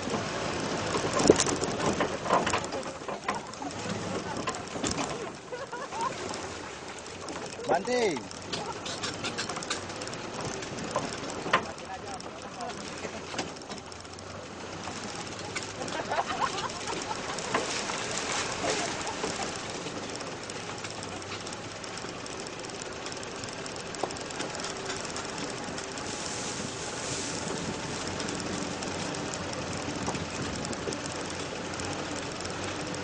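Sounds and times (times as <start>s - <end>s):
road noise: 0.0s - 33.0s
vehicle engine drone: 0.0s - 33.0s.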